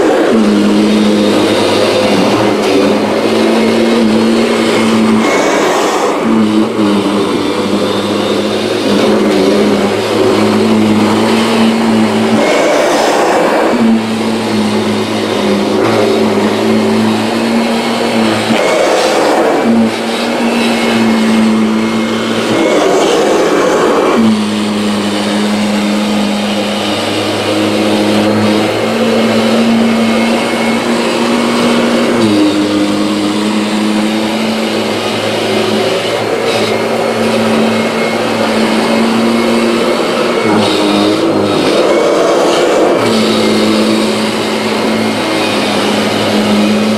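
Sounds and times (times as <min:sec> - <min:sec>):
upright vacuum cleaner on rug: 0:00.0 - 0:46.9.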